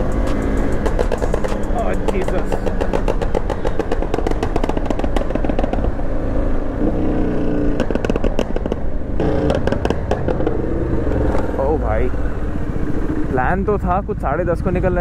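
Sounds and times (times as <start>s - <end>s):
exhaust popping and crackling: 0.0s - 12.2s
motorcycles revving: 0.0s - 15.0s.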